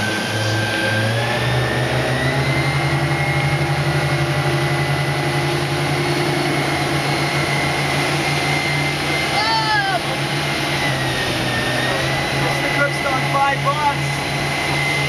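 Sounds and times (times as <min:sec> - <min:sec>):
high motor whine: 0:00.0 - 0:15.0
outboard motor running: 0:00.0 - 0:15.0.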